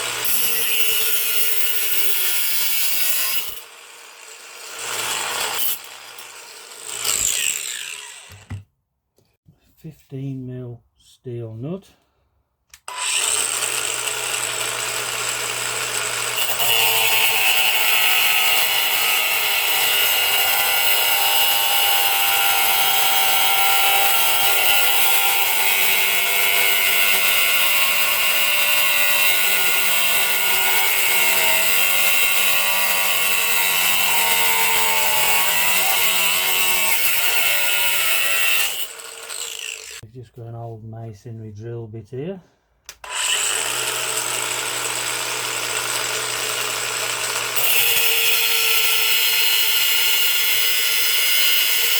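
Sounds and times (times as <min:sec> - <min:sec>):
angle grinder running: 0:00.0 - 0:08.6, 0:12.8 - 0:40.0, 0:43.0 - 0:51.9.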